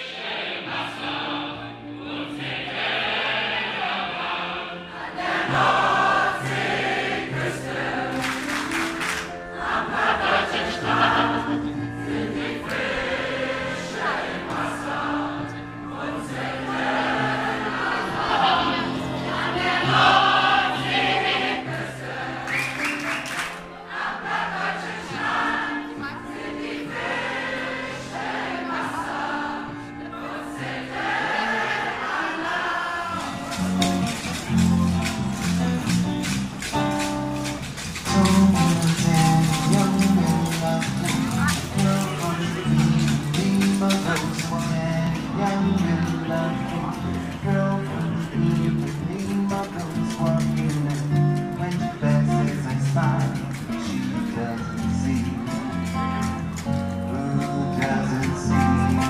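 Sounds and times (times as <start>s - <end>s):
group of people singing: 0.0s - 35.2s, 38.0s - 56.4s, 57.1s - 59.0s
instrumental accompaniment: 0.2s - 59.0s.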